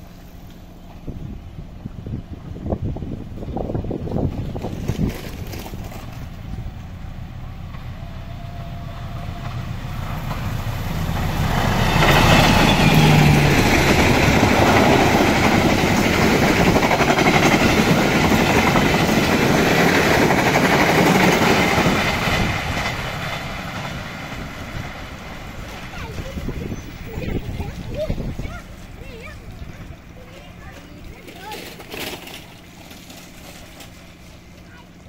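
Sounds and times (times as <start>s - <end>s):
diesel locomotive passing: 0.0s - 35.0s
wheels on rails: 0.0s - 35.0s.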